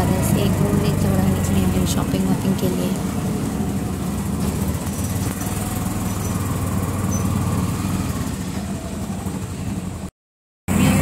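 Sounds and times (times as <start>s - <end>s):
engine humming: 0.0s - 10.1s, 10.7s - 11.0s.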